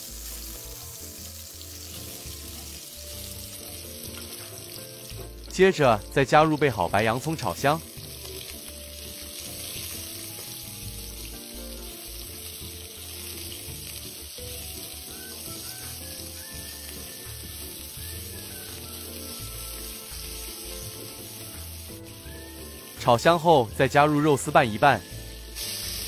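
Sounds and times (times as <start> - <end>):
spatula stir-frying in a wok: 0.0 - 5.6, 7.8 - 23.1, 25.0 - 26.0
onion sizzling in hot oil: 0.0 - 26.0.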